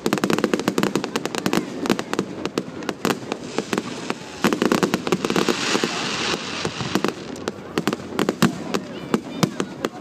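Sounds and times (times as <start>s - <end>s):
fireworks bangs and crackles: 0.0s - 10.0s
hissing firework crackle: 0.0s - 10.0s.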